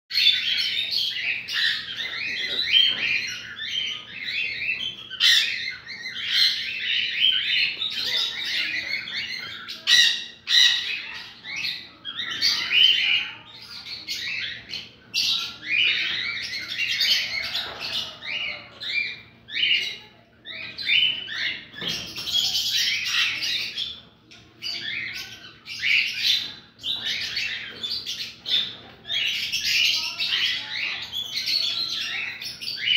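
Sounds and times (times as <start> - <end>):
cockatiels chirping and squawking: 0.1 - 32.9.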